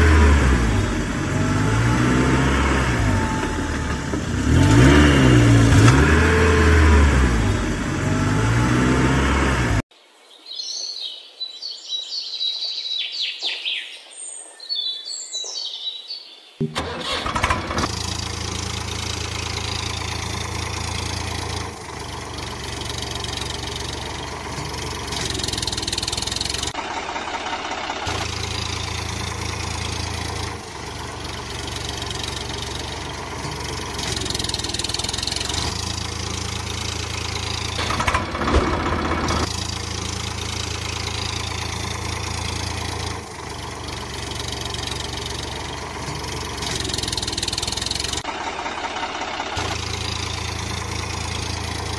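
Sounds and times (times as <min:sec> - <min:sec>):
tractor engine idling: 0:00.0 - 0:09.8, 0:16.6 - 0:51.9.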